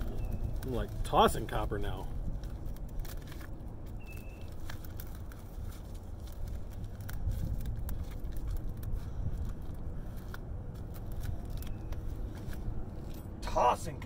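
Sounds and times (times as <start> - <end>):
copper wire clicking and rustling: 0.0 - 13.4
steady low rumble: 0.0 - 14.0.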